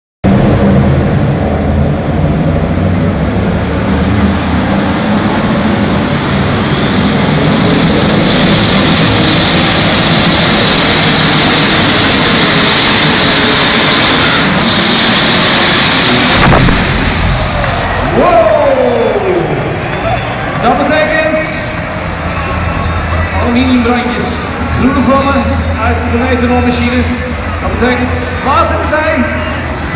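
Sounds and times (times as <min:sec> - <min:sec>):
high engine whine: 0:00.2 - 0:29.9
tractor engine at full throttle: 0:00.2 - 0:29.9.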